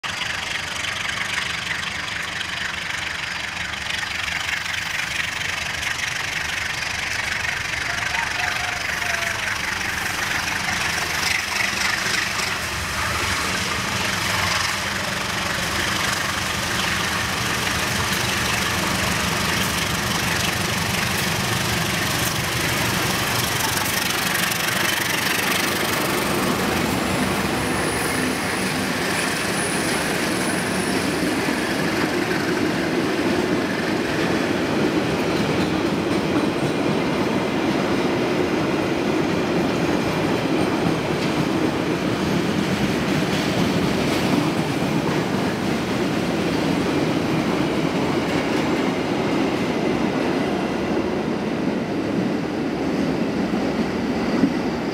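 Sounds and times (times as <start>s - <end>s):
diesel locomotive engine rumble: 0.0s - 54.9s.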